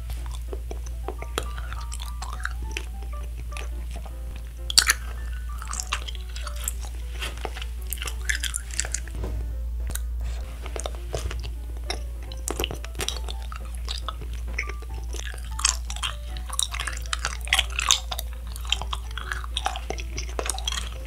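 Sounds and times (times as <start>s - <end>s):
wet chewing of wax candy: 0.0s - 9.2s, 10.3s - 21.0s.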